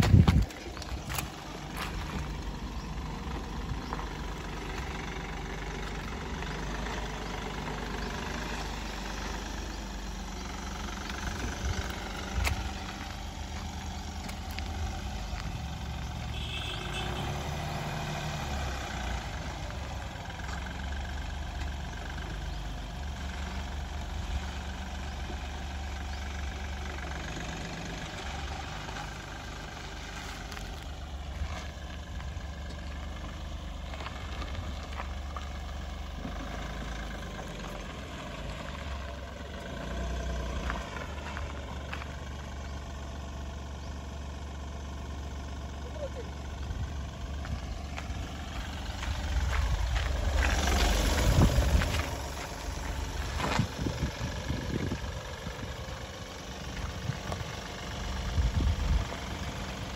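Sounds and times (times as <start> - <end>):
diesel engine running at low revs: 0.0 - 59.9.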